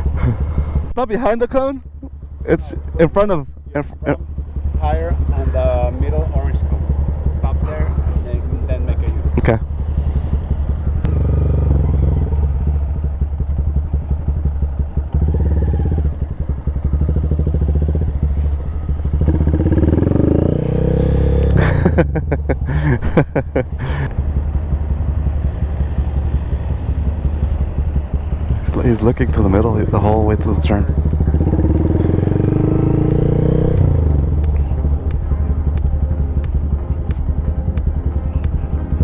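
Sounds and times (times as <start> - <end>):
small motorcycle engine running: 0.0 - 39.0.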